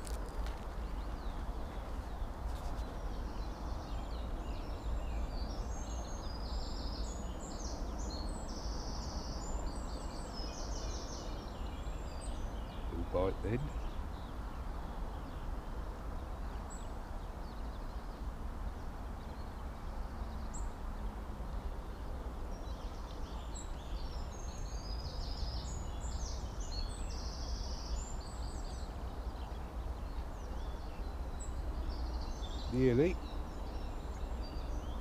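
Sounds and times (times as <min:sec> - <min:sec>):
low wind rumble: 0:00.0 - 0:35.0.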